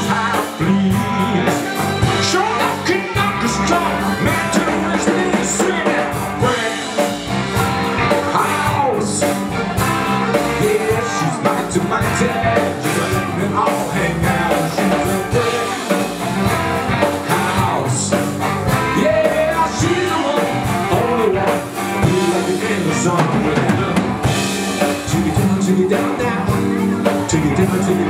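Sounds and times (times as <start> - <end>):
drum kit: 0.0 - 28.0
electric guitar: 0.0 - 28.0
person singing: 0.0 - 28.0.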